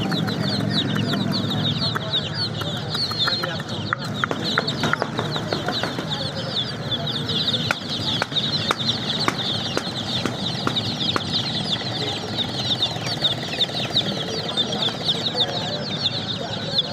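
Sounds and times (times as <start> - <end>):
baby chicks peeping: 0.0 - 16.9.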